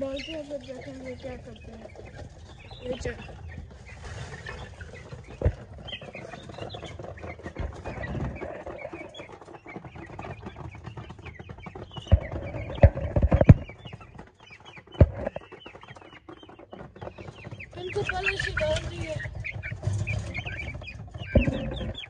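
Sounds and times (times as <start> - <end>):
chickens clucking and cheeping: 0.0 - 22.0.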